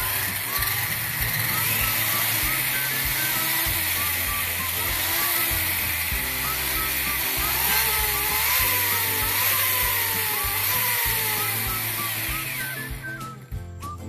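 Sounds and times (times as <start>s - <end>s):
electric motor whining: 0.0s - 13.5s
pulsing low hum of vibration: 0.0s - 13.8s.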